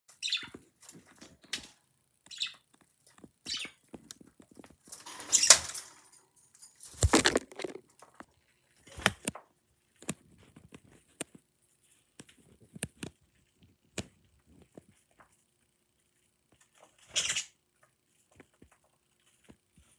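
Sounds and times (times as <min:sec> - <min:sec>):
birds pecking and shuffling: 0:00.1 - 0:19.9.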